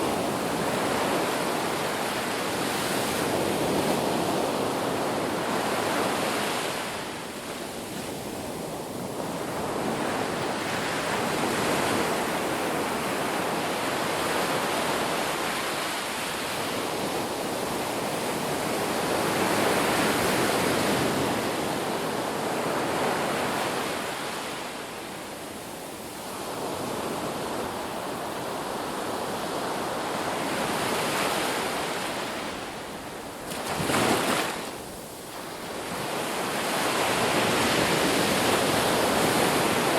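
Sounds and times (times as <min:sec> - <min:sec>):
ocean surf washing: 0:00.0 - 0:39.9.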